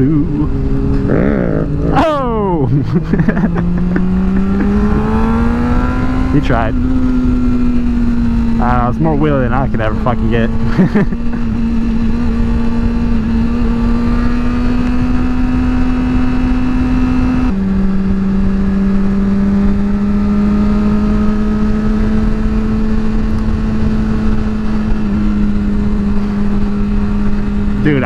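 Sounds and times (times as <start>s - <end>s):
motorcycle engine accelerating: 0.0s - 28.0s
wind rumble on microphone: 3.5s - 28.0s.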